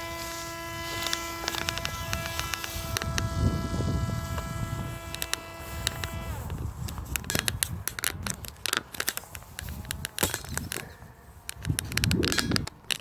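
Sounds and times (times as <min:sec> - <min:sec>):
sharp clicks and scraping: 0:00.0 - 0:13.0
wind rumble on microphone: 0:00.0 - 0:13.0.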